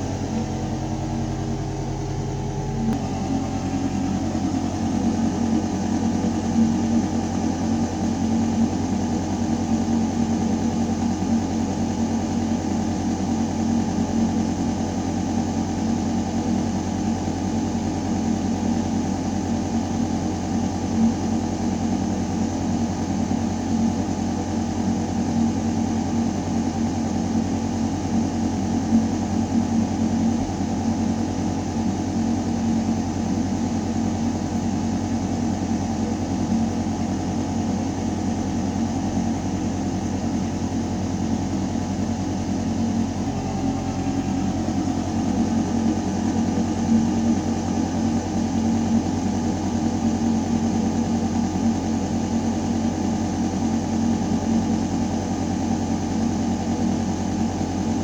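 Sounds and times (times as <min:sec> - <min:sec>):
ventilation hum: 0:00.0 - 0:58.0.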